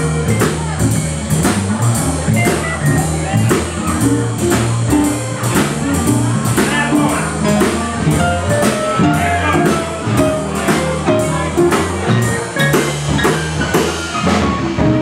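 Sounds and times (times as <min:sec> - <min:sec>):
drum kit beat: 0:00.0 - 0:15.0
electric keyboard: 0:00.0 - 0:15.0
upright bass line: 0:00.0 - 0:15.0.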